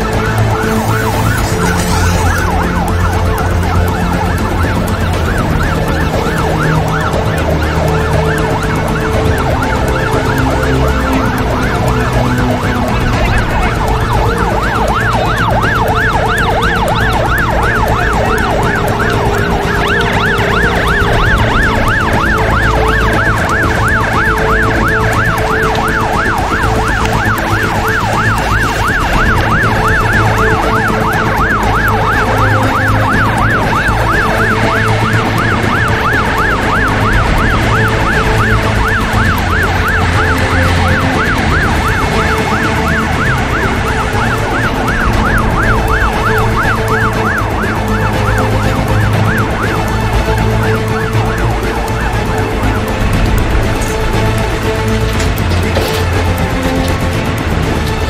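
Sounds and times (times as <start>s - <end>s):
emergency siren yelping: 0.0s - 58.0s
vehicle engines running: 0.0s - 58.0s.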